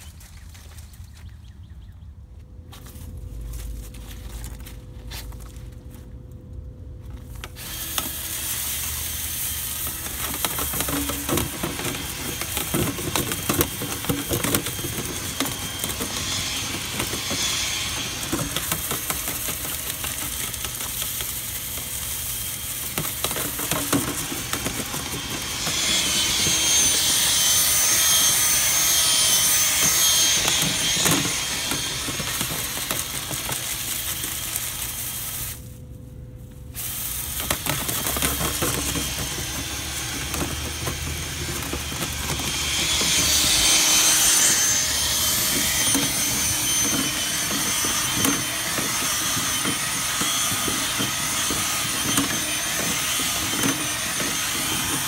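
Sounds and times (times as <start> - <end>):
rod rattling and scraping in duct: 7.3 - 35.7, 36.6 - 55.0
power drill whining: 7.4 - 35.3, 36.8 - 55.0.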